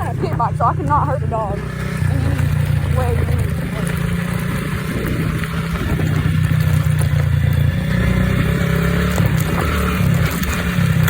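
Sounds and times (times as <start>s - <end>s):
small motorbike engine droning: 0.0s - 11.0s.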